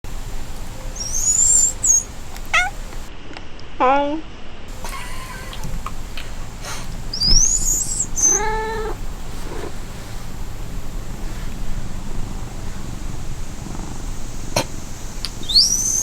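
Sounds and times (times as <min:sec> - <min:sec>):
cat meowing: 0:00.4 - 0:03.1, 0:04.7 - 0:16.0.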